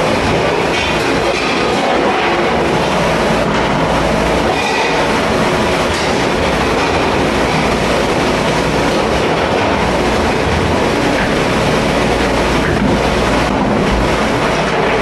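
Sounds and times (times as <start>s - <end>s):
dish machine running with rattle: 0.0s - 15.0s.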